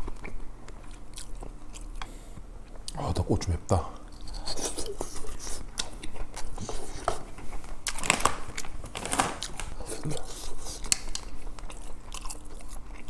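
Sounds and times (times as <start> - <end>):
person chewing crunchy food: 0.0 - 3.0, 4.0 - 13.0.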